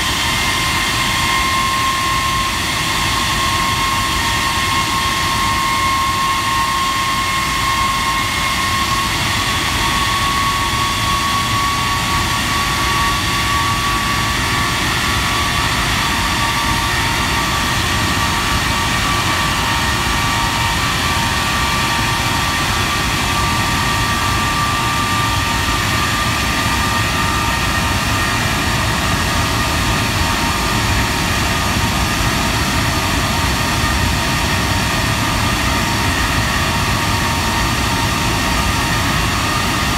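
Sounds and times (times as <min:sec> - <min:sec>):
jet engine high whine: 0:00.0 - 0:39.9
jet engine rushing: 0:00.0 - 0:39.9.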